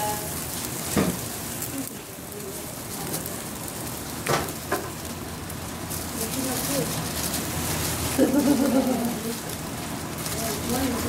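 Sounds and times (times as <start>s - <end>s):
steak sizzling on grill: 0.0s - 11.0s.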